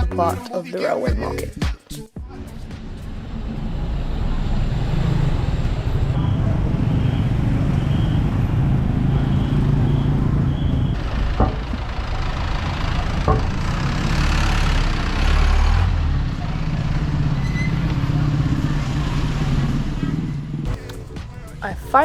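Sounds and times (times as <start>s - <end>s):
traffic rumble: 2.2s - 22.0s
vehicle passing: 2.3s - 22.0s.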